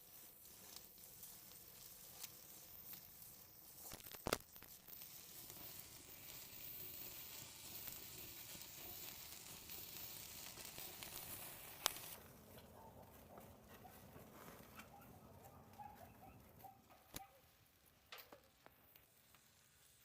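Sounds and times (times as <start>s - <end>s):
food sizzling faintly: 0.0s - 20.0s.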